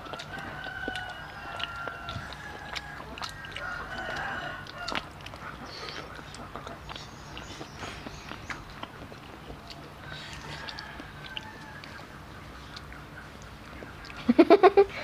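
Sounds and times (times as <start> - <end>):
faint chicken calls: 0.0 - 15.0.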